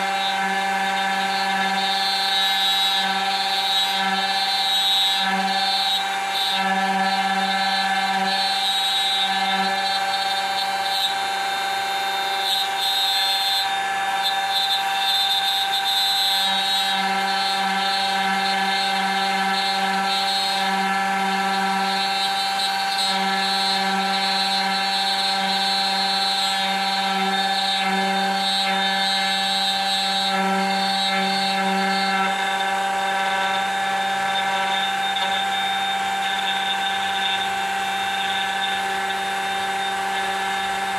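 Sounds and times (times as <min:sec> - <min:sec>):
router low hum: 0:00.0 - 0:12.8, 0:16.4 - 0:40.9
router high whine: 0:00.0 - 0:40.9.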